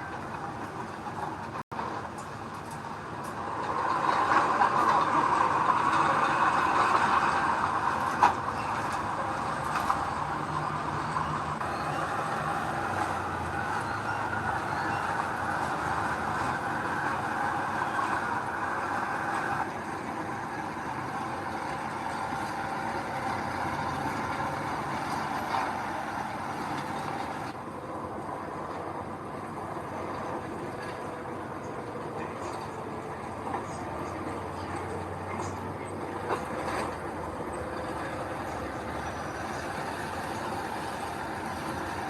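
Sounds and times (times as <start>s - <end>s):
bulldozer diesel engine: 0.0s - 42.0s
bulldozer tracks: 0.0s - 42.0s.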